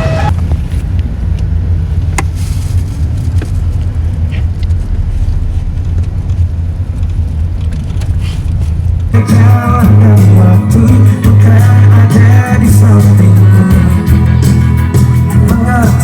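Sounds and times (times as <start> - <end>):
vehicle cabin rumble: 0.0 - 16.0.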